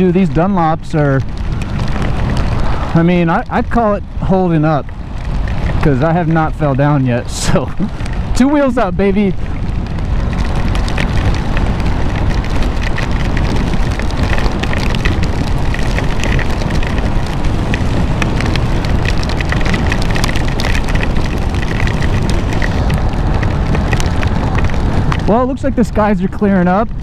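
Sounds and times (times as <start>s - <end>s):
raindrops ticking on helmet: 0.0s - 27.0s
wind rushing over helmet: 0.0s - 27.0s.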